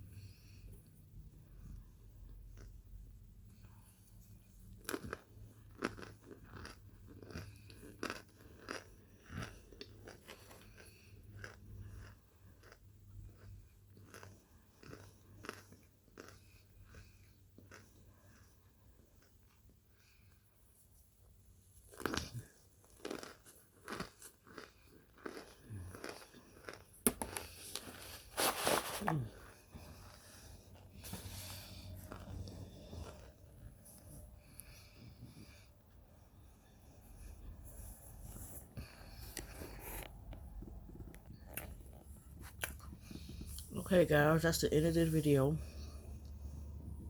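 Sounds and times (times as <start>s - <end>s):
person chewing crunchy food: 1.4s - 20.4s, 21.3s - 43.8s.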